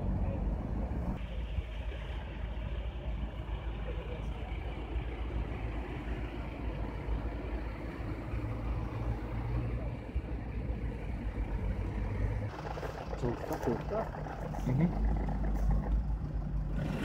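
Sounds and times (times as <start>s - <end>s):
traffic noise: 0.0s - 17.0s
vehicle engines idling: 0.0s - 17.0s.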